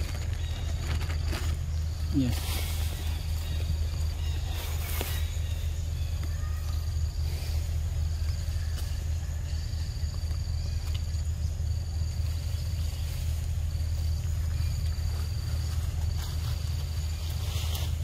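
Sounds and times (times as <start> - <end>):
insects buzzing: 0.0 - 18.0
steady low rumble: 0.0 - 18.0.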